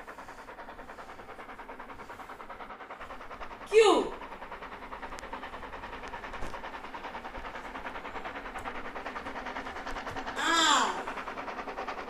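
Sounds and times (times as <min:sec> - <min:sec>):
steady fluttering background noise: 0:00.0 - 0:12.0.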